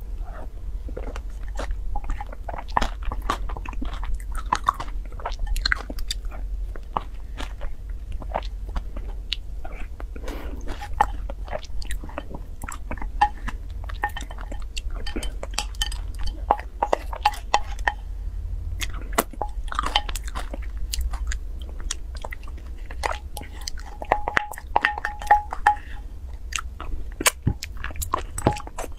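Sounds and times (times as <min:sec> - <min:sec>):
chewing and wet mouth noises: 0:00.0 - 0:28.9
steady low hum: 0:00.0 - 0:28.9.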